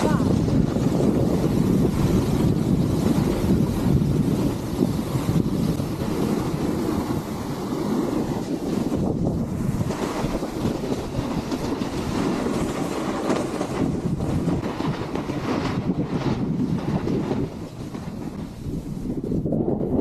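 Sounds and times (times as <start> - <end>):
snowboard scraping over snow: 0.0 - 20.0.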